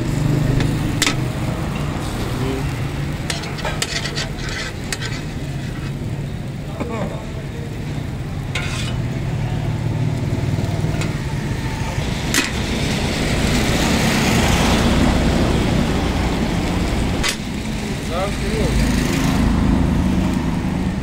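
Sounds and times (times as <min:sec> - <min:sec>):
engines running low rumble: 0:00.0 - 0:21.0.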